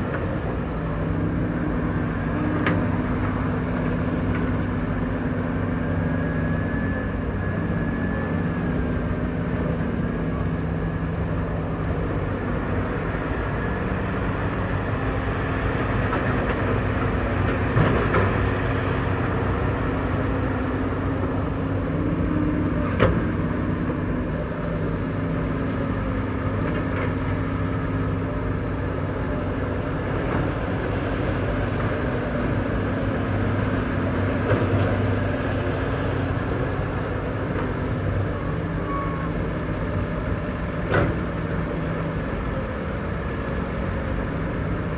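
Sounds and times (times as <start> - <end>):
heavy diesel engine running: 0.0 - 44.9.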